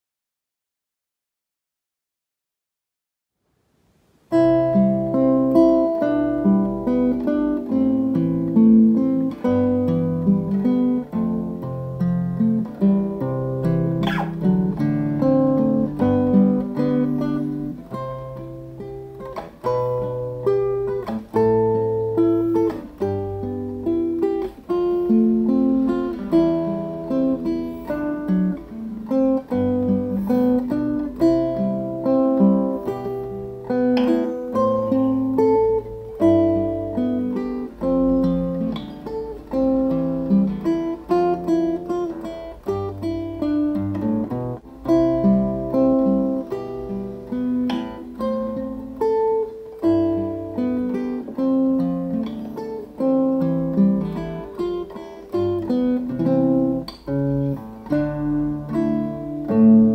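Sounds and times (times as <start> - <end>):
classical guitar fingerpicked: 4.2 - 59.9.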